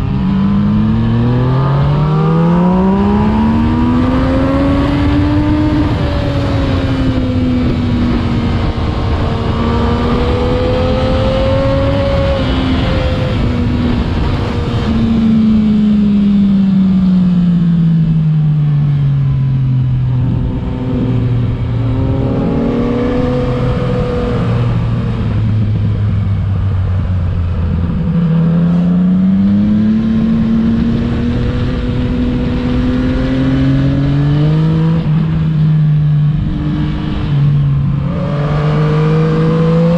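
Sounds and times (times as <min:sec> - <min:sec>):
motorcycle engine revving: 0:00.0 - 0:18.2, 0:18.9 - 0:39.9.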